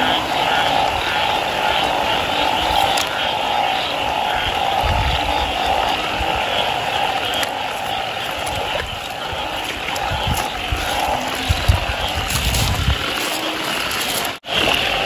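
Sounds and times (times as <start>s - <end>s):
chorus of frogs calling: 0.0s - 15.0s.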